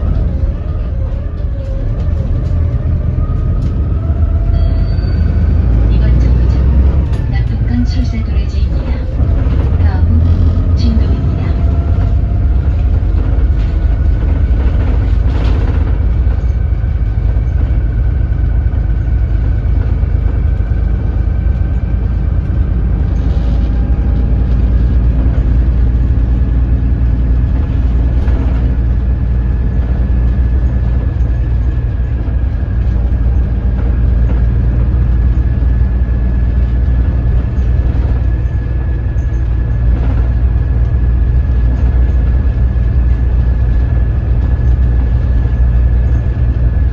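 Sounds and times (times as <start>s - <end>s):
bus diesel engine droning: 0.0s - 46.9s.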